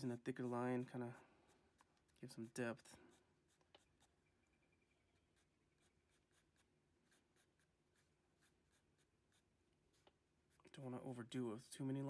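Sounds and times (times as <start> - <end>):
pencil scratching on paper: 0.0 - 4.3, 5.1 - 10.7.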